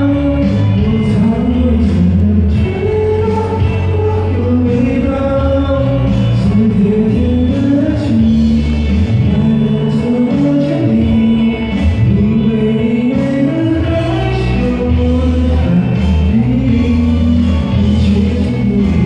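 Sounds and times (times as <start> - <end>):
backing track over loudspeakers: 0.0 - 19.0
man singing pop ballad: 0.0 - 19.0.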